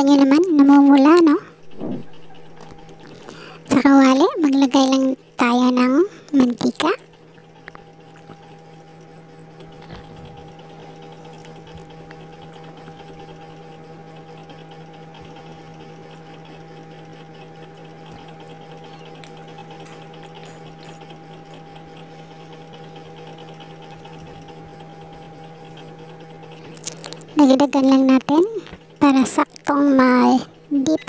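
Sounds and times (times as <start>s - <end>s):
machine hum with held tones: 0.0s - 31.0s.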